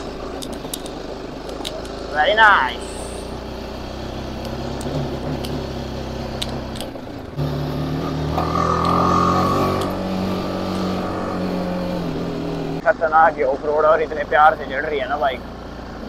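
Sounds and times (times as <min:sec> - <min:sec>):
motorcycle engine running: 0:00.0 - 0:13.0, 0:13.8 - 0:16.0.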